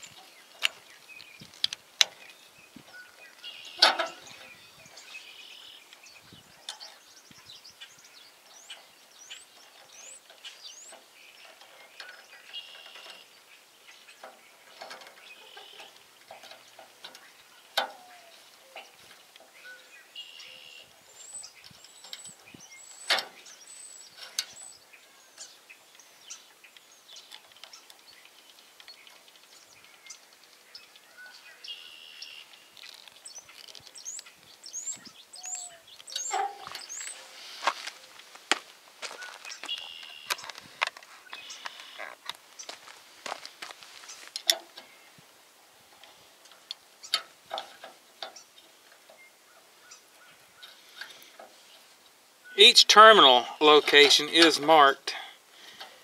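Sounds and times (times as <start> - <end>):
outdoor background noise: 0.0 - 56.0
small birds chirping: 0.0 - 56.0.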